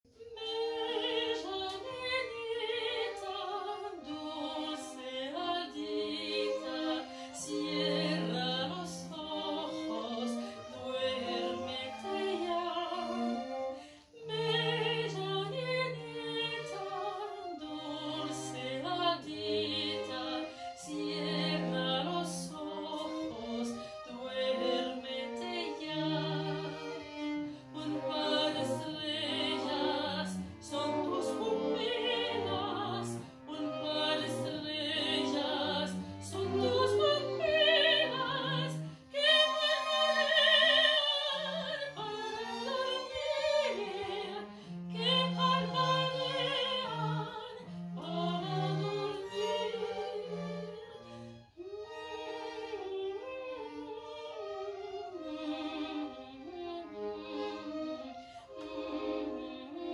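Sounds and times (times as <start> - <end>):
string ensemble playing classical piece: 0.1 - 59.9.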